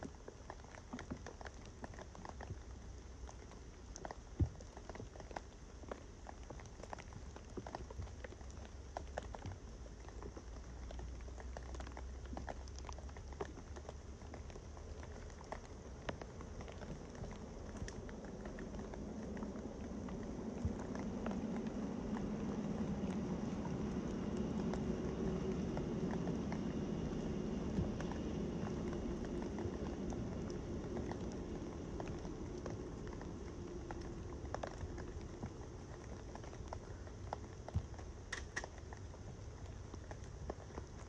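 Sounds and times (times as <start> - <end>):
kindling fire crackling: 0.0 - 41.0
low steady rumble: 0.0 - 41.0.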